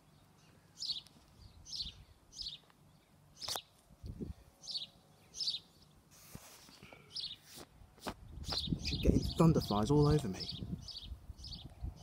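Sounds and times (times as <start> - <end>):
small bird chirping: 0.0 - 3.7, 4.6 - 6.0, 6.6 - 9.8, 10.4 - 12.0.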